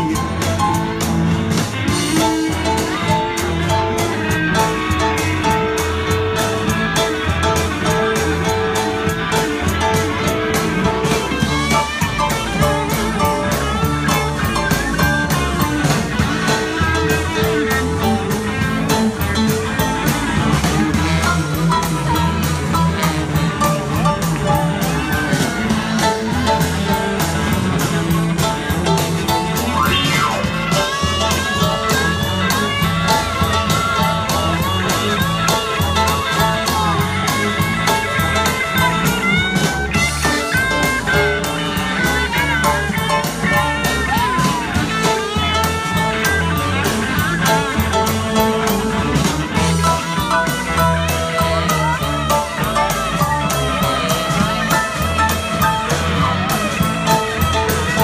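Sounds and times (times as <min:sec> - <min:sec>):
bass line: 0:00.0 - 0:58.0
drum beat: 0:00.0 - 0:58.0
keyboard: 0:00.0 - 0:58.0
lead line of bending notes: 0:00.0 - 0:58.0.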